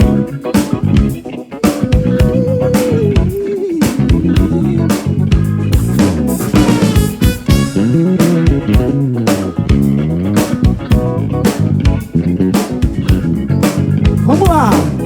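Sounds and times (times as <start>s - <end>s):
bass guitar line: 0.0s - 15.0s
drum kit beat: 0.0s - 15.0s
electric guitar lead: 0.0s - 15.0s
live band playing: 0.0s - 15.0s.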